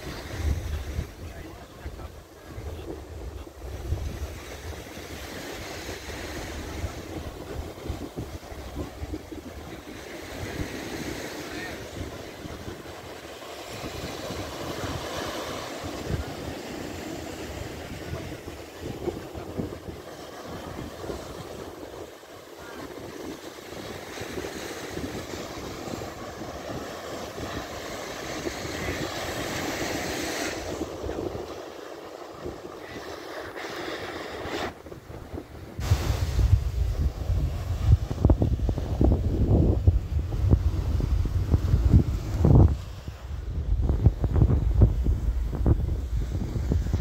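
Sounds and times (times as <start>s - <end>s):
wind on microphone: 0.0s - 47.0s
surf breaking on rocks: 4.2s - 47.0s.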